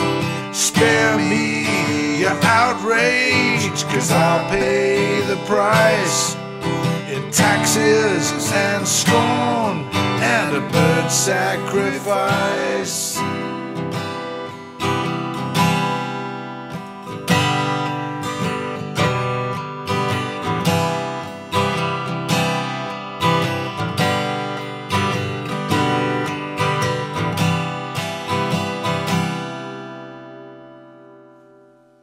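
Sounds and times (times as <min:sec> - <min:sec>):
acoustic guitar chords: 0:00.0 - 0:32.0.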